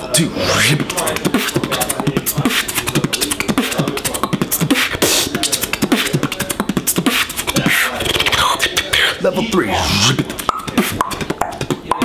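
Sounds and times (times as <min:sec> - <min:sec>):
person beatboxing: 0:00.0 - 0:12.0.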